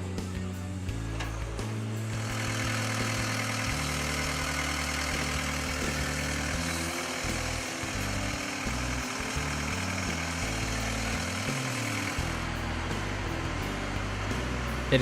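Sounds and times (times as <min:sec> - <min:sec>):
diesel engine running: 0:00.0 - 0:15.0
music with stepping bass line: 0:00.0 - 0:15.0.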